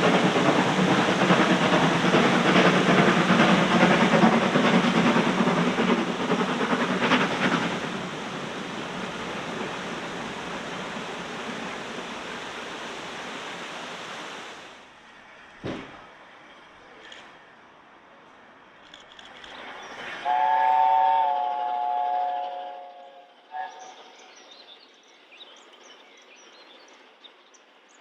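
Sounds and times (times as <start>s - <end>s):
steam train passing: 0.0s - 28.0s.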